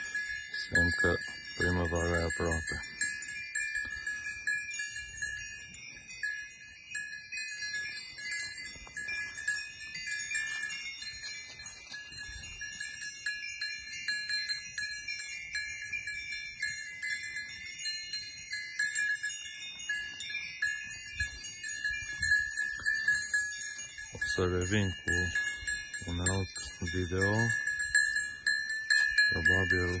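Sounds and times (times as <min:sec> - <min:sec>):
goat bells tinkling: 0:00.0 - 0:30.0.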